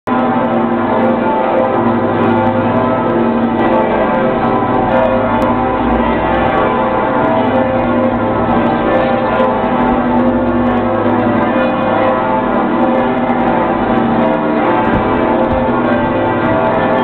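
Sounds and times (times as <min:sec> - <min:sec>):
church bells pealing: 0:00.1 - 0:17.0.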